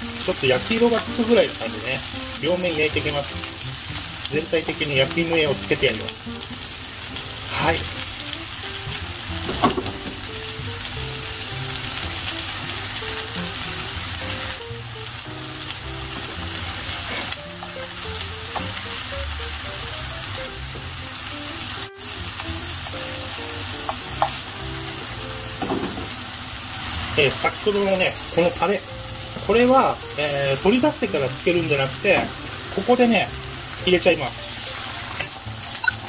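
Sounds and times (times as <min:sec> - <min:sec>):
vegetables sizzling in a frying pan: 0:00.0 - 0:36.0.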